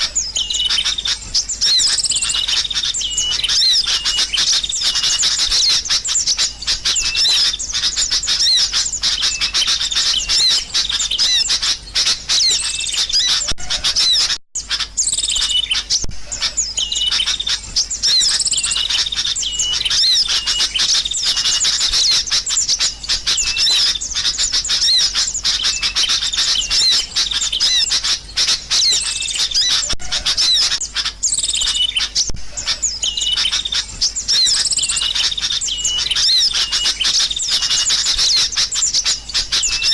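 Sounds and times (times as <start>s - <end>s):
birds chirping busily: 0.0s - 39.9s.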